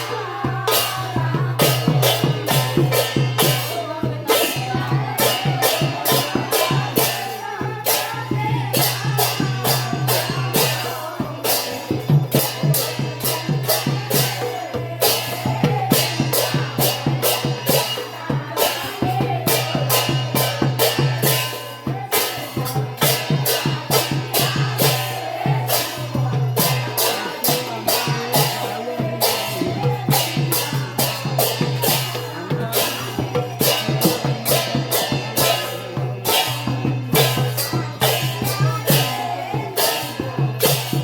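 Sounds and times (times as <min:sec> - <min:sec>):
sharp percussive beat: 0:00.0 - 0:41.0
voices singing together: 0:00.0 - 0:41.0.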